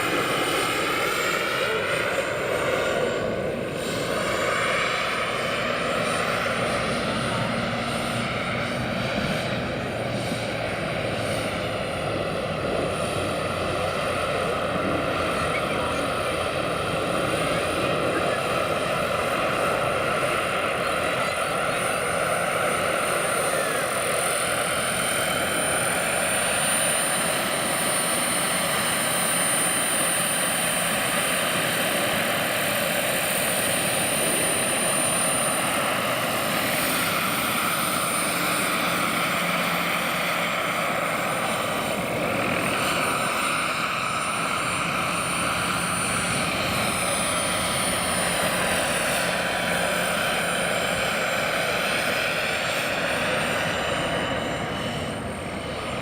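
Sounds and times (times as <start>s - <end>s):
helicopter rotor rushing: 0.0s - 56.0s
helicopter turbine whine: 0.0s - 56.0s.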